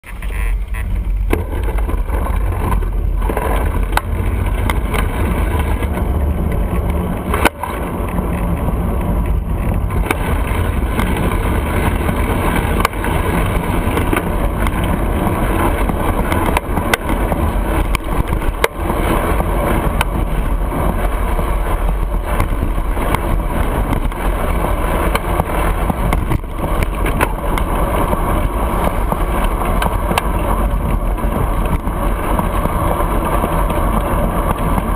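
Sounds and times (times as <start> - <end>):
deep rumble: 0.0 - 34.9
road and wind noise: 0.0 - 34.9.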